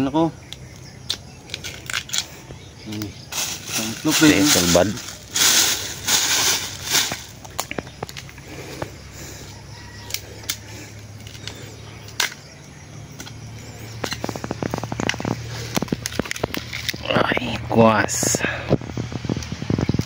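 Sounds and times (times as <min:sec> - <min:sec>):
bamboo husks snapping and crackling: 0:00.4 - 0:17.7, 0:18.6 - 0:20.0.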